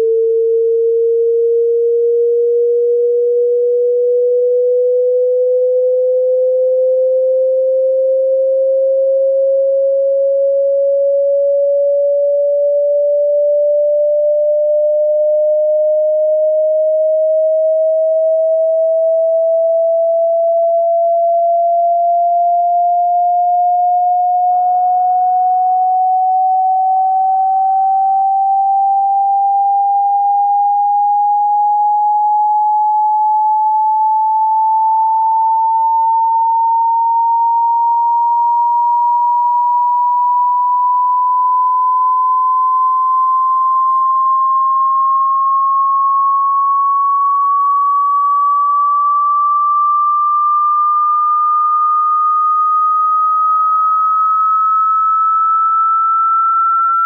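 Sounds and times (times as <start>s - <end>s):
rising sine test tone: 0.0s - 57.0s.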